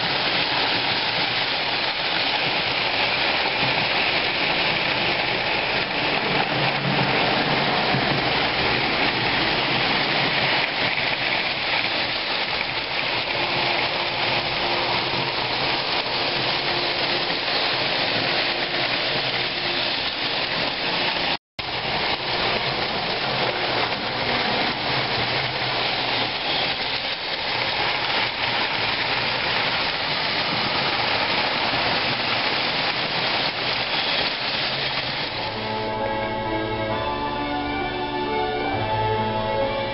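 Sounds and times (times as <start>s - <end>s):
model train motors humming: 0.0s - 35.7s.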